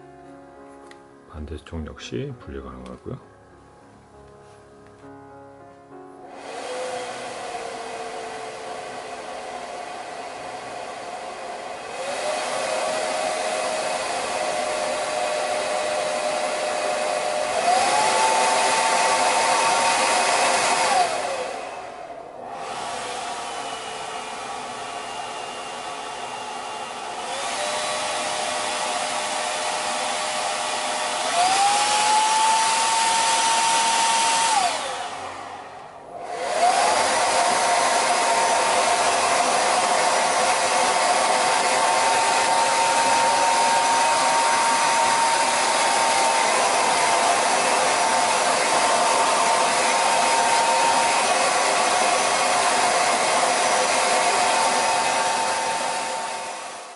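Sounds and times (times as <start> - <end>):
hair dryer blowing: 6.2 - 56.9.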